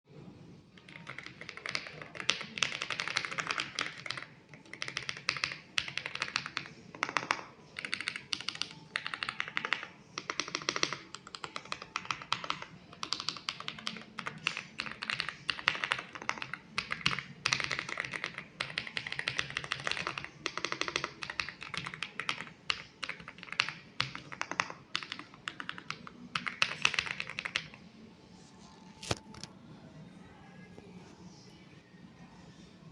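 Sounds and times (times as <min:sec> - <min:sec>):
typing on mechanical keyboard: 0:00.8 - 0:27.8.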